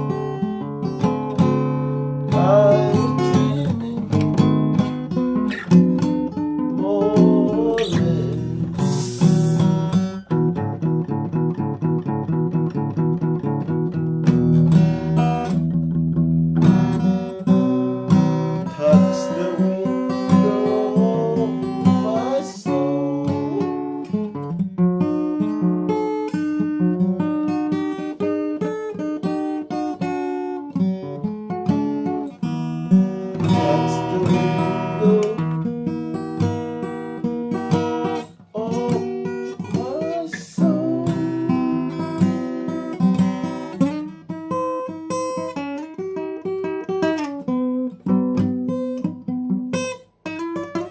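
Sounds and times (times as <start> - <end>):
acoustic guitar chords: 0.0 - 50.9.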